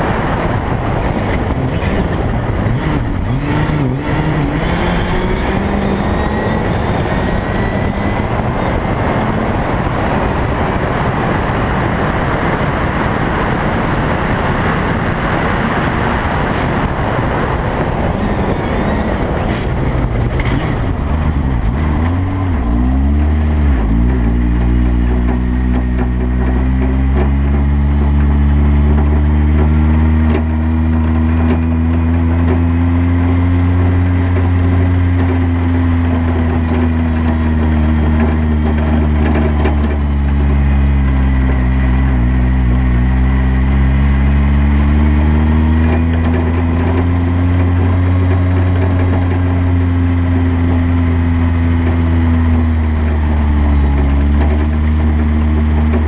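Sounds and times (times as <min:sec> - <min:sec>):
rally car engine: 0:00.0 - 0:56.0.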